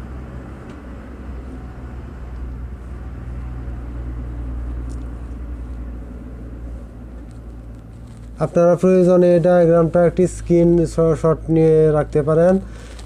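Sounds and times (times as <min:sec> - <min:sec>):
low background rumble: 0:00.0 - 0:13.0
steady mains hum: 0:00.0 - 0:13.0.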